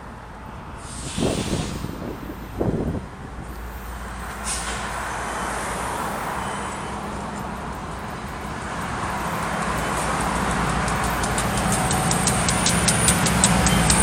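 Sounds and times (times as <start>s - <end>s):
locomotive engines rumbling: 0.0s - 14.0s
wheels rushing on rails: 0.0s - 14.0s.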